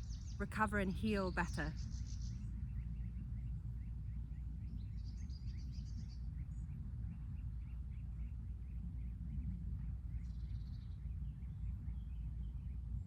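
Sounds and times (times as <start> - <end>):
birds chirping: 0.0 - 13.0
wind on microphone: 0.0 - 13.0.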